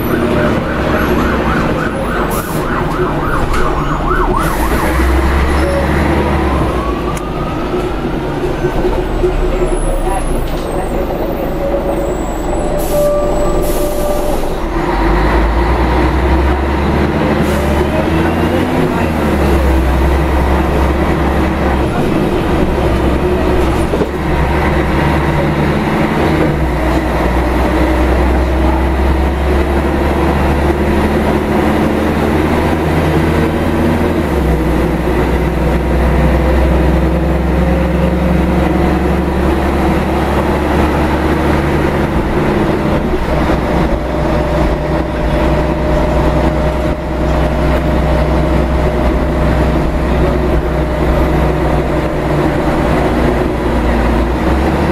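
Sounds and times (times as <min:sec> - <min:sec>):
diesel bus engine droning: 0:00.0 - 0:54.9.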